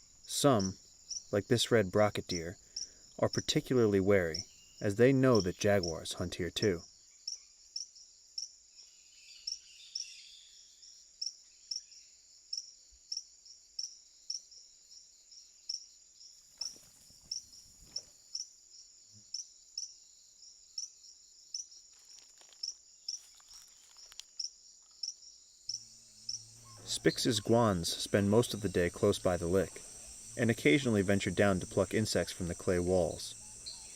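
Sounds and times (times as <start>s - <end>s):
insects chirping: 0.0s - 33.9s.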